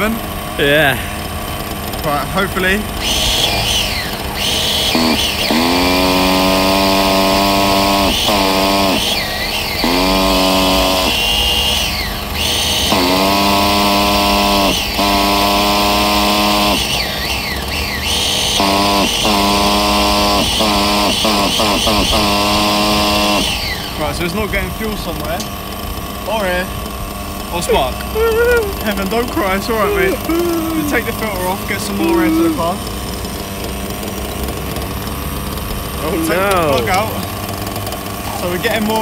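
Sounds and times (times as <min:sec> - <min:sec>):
electric starter cranking small engine: 0:00.0 - 0:39.0.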